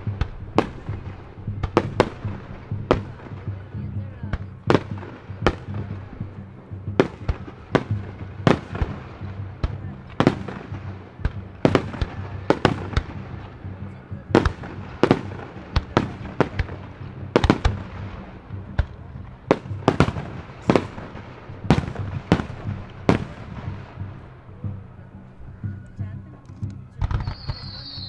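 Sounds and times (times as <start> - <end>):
firework bangs: 0.0 - 25.0, 26.9 - 28.0.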